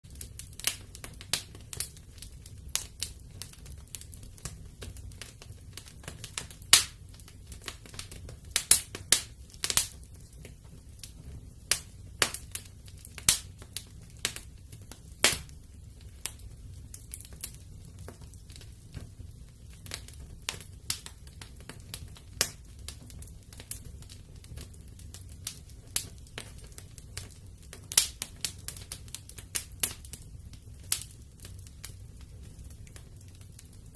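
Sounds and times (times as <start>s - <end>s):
fire popping: 0.0s - 33.9s
wood fire crackling: 0.0s - 33.9s.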